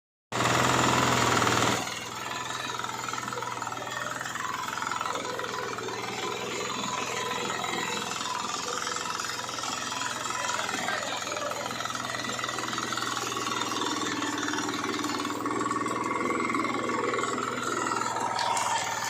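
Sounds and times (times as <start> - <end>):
tractor engine knocking: 0.3 - 19.0.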